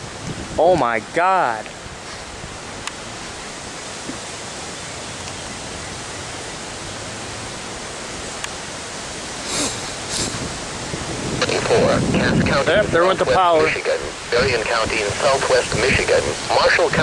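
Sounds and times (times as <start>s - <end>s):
heavy rain: 0.0s - 17.0s
wind: 0.0s - 17.0s.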